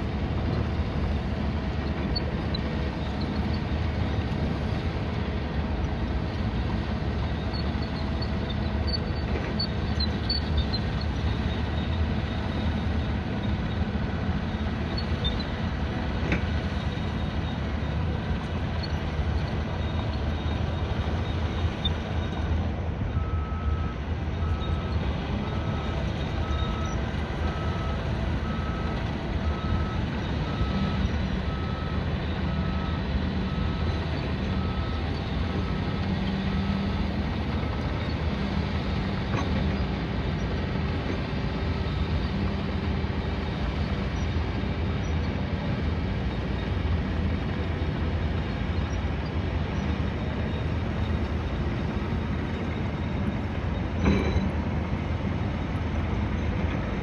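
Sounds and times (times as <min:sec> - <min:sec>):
low rumble of vehicles: 0:00.0 - 0:57.0.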